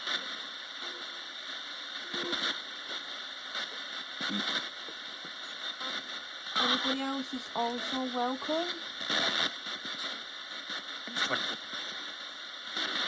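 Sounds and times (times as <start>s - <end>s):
radio static hissing: 0.0s - 13.0s.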